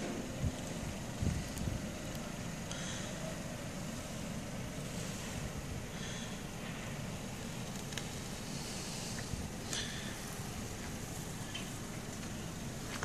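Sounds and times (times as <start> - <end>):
rushing wind: 0.0 - 13.0.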